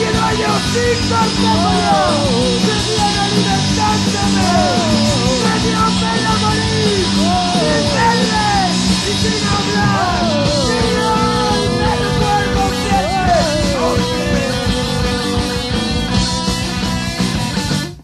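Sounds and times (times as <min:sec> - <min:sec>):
punk rock song: 0:00.0 - 0:18.0.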